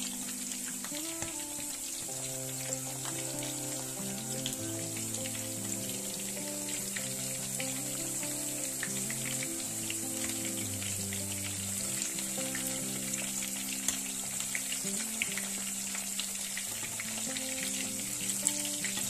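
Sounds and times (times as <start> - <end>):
slow background music: 0.0 - 19.0
vegetables frying in hot oil: 0.0 - 19.0.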